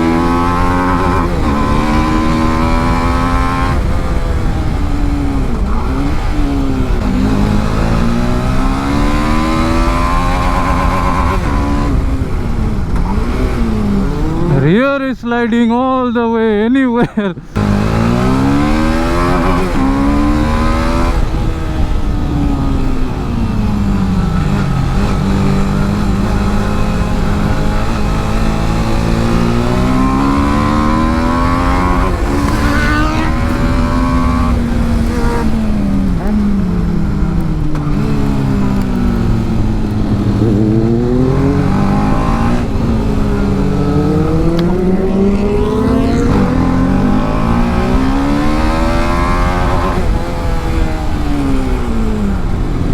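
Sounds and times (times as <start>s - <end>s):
motorcycle engine revving: 0.0s - 14.8s, 17.1s - 52.9s.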